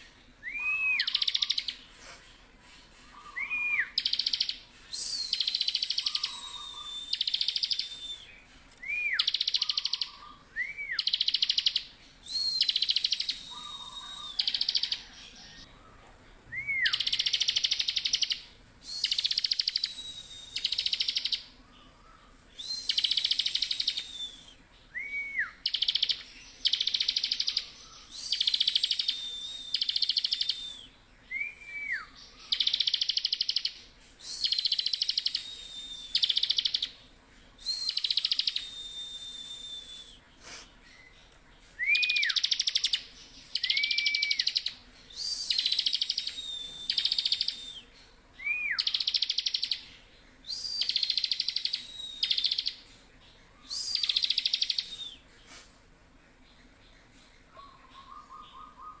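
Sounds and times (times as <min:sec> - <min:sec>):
bird whistled notes: 0:03.1 - 0:15.6, 0:16.5 - 0:21.5, 0:22.6 - 0:36.9, 0:37.6 - 0:40.6, 0:41.8 - 0:49.9, 0:50.5 - 0:52.9, 0:53.7 - 0:55.6.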